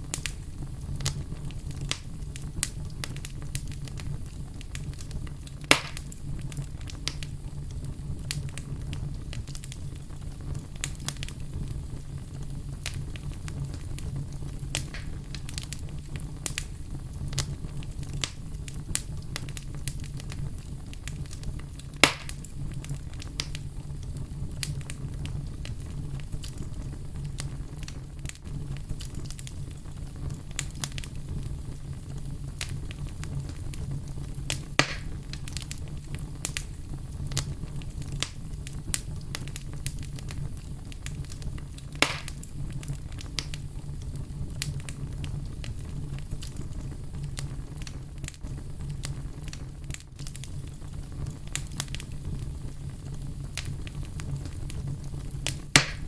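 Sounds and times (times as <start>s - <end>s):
fire crackling: 0.0s - 56.0s
loud fire pops: 0.0s - 56.0s.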